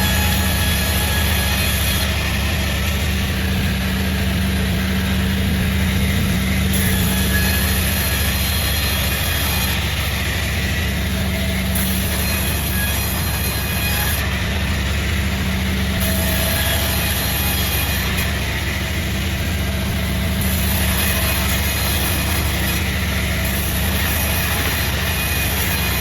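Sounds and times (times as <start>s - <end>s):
sawmill machinery humming: 0.0s - 26.0s.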